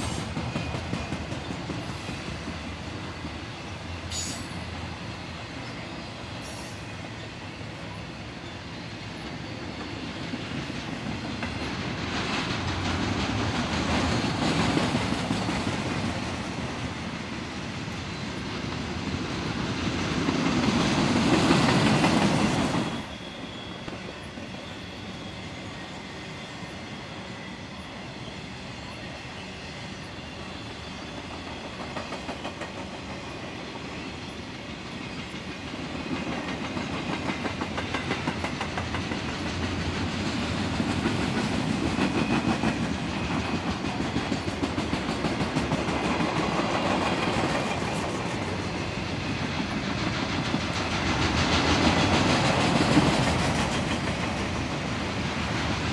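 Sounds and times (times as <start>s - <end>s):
train wheels clicking on rail joints: 0.0s - 55.9s.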